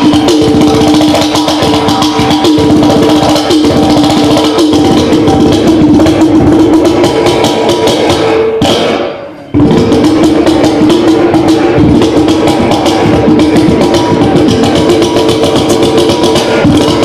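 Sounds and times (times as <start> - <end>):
copper pot drum played by hand: 0.0 - 17.0.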